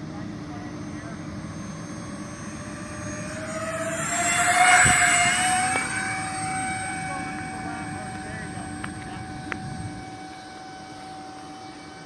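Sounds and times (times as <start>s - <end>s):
model aircraft fans whining: 0.0s - 12.0s.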